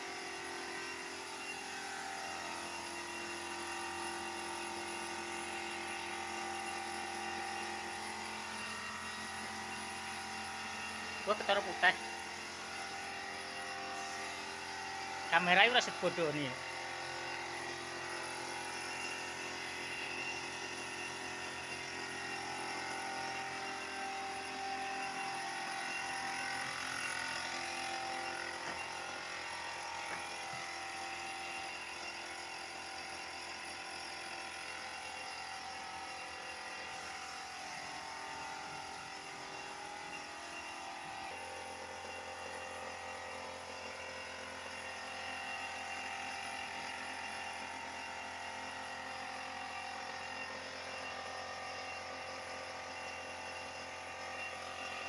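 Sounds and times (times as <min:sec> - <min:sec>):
machine humming and hissing: 0:00.0 - 0:55.0.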